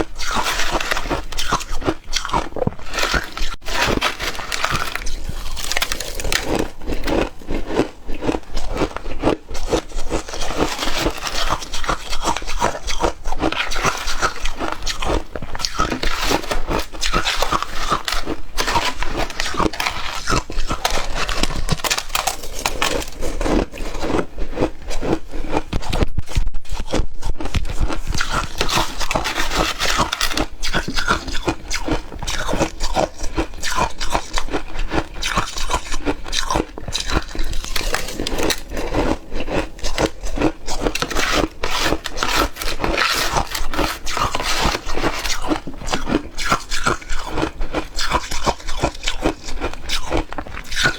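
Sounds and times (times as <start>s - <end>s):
crunching shaved ice: 0.0s - 25.8s, 27.4s - 50.9s.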